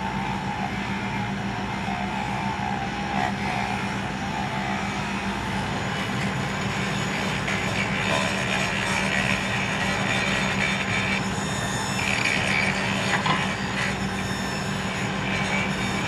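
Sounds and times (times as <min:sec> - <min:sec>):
track-work machine humming: 0:00.0 - 0:16.0.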